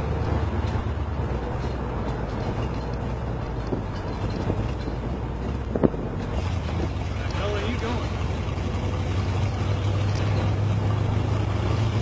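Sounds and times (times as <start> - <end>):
engine running steadily: 0.0 - 12.0
road noise: 0.0 - 12.0.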